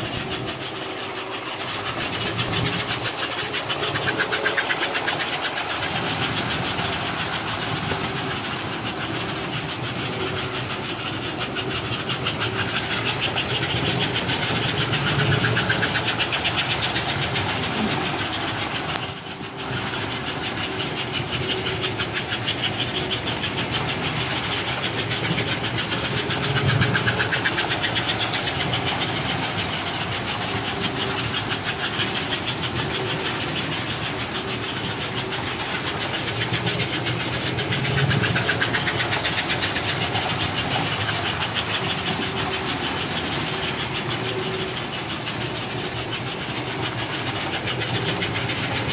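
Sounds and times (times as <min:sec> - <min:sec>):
toy locomotive chuffing: 0:00.0 - 0:48.9
toy train wheels rattling on track: 0:00.0 - 0:48.9.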